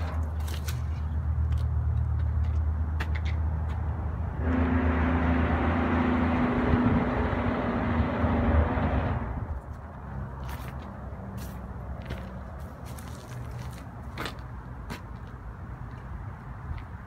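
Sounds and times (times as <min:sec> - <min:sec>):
highway traffic rumble: 0:00.0 - 0:17.0
passing vehicle engine and tyres: 0:00.0 - 0:17.0.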